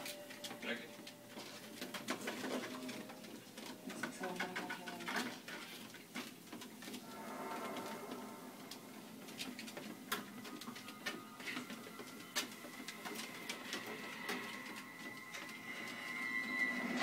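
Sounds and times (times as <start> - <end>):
treadmill running: 0.0 - 17.0.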